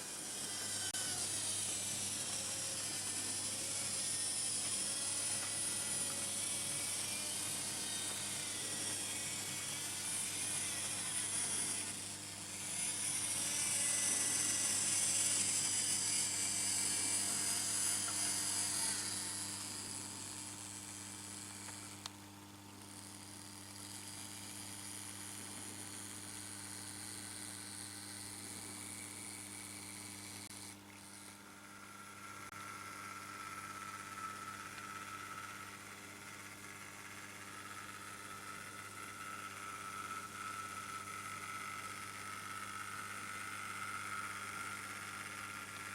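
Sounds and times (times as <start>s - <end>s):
electric motors whirring: 0.0s - 45.9s
steady low hum: 0.0s - 45.9s.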